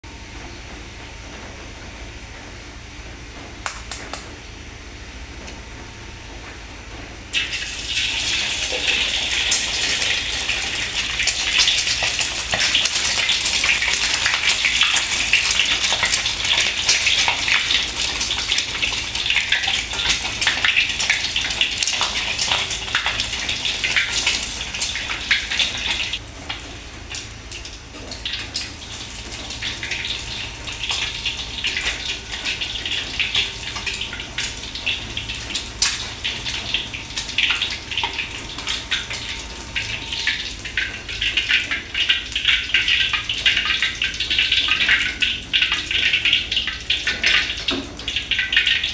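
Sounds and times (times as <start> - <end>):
water running from a tap: 7.3 - 48.9.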